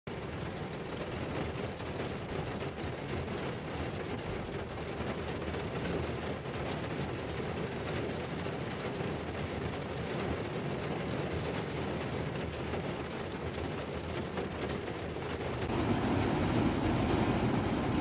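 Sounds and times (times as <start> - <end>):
heavy rain drumming on car roof: 0.1 - 18.0.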